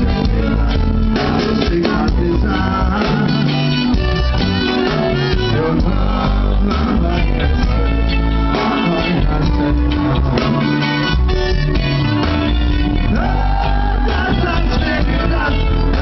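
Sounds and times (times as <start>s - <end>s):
reggae band playing: 0.0s - 16.0s
singer's voice: 0.0s - 16.0s.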